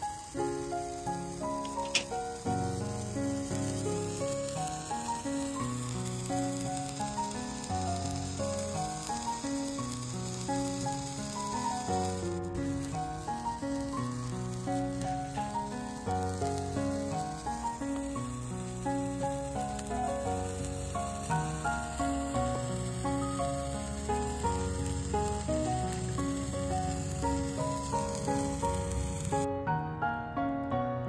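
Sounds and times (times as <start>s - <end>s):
steady high hiss: 0.0s - 29.6s
melody of held notes: 0.0s - 31.0s.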